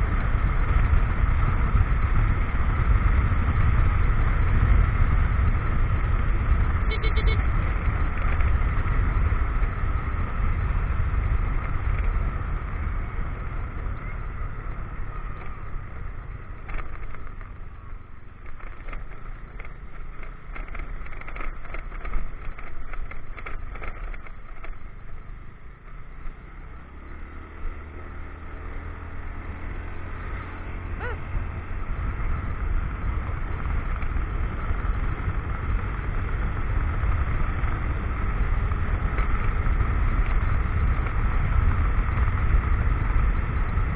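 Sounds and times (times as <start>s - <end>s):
motorcycle engine rumble: 0.0s - 43.9s.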